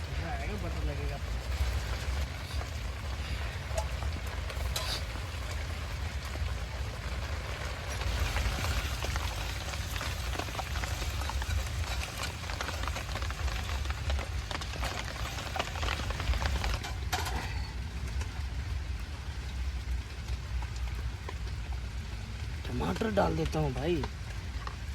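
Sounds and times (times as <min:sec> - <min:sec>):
light rain pattering: 0:00.0 - 0:24.9
low steady rumble: 0:00.0 - 0:24.9.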